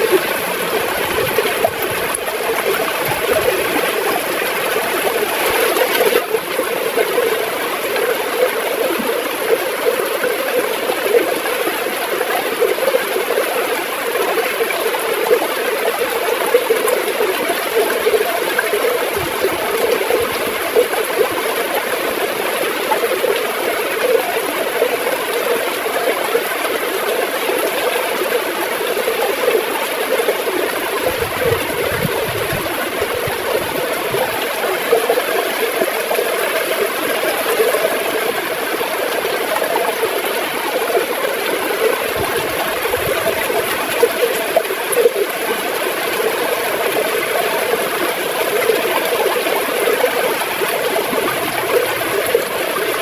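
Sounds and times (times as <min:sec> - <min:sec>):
river water flowing and gurgling: 0:00.0 - 0:53.0.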